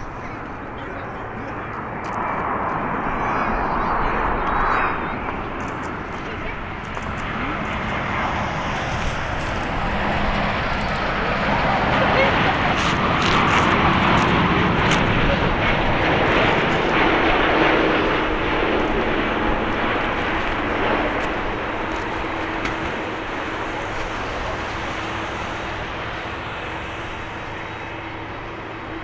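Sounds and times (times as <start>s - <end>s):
jet engine rumble: 0.0s - 29.0s.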